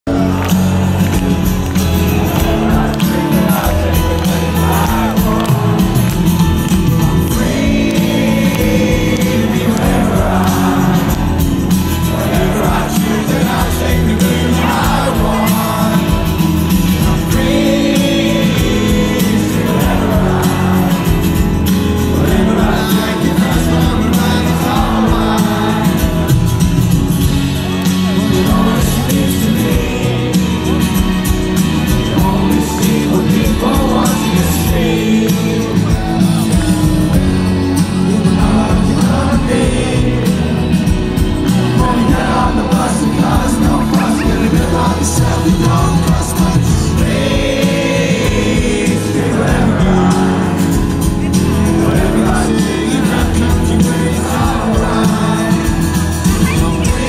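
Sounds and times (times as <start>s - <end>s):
acoustic guitar: 0.0s - 57.0s
drums: 0.0s - 57.0s
person singing: 0.0s - 57.0s.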